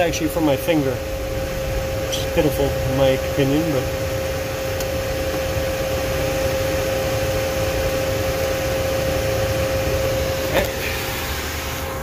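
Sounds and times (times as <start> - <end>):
electric cooling fans rushing: 0.0 - 12.0.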